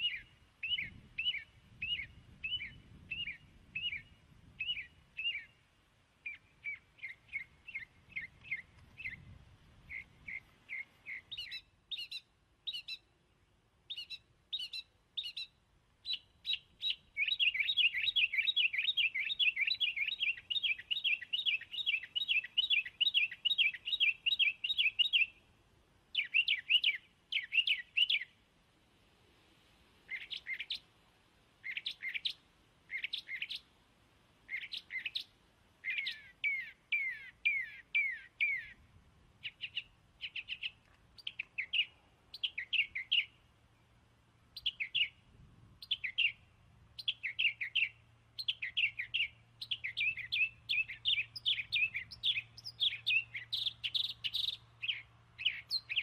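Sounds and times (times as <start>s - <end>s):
birds chirping: 0.0s - 28.4s, 30.0s - 30.9s, 31.6s - 33.7s, 34.4s - 56.0s.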